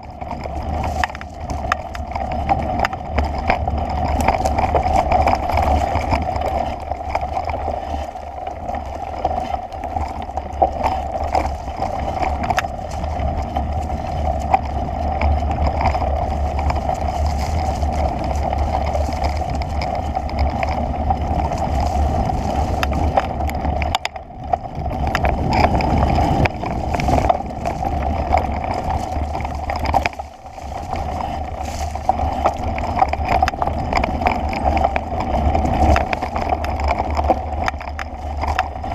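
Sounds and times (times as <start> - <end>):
vehicle driving on dirt trail: 0.0 - 38.9
wind rumble on microphone: 0.0 - 38.9.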